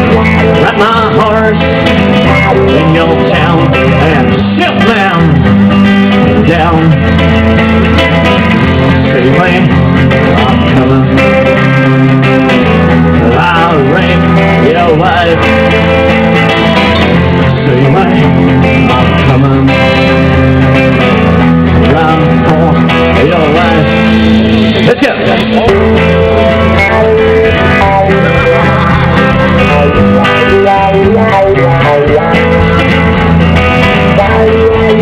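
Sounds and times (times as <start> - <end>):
guitar band music with beat: 0.0 - 35.0.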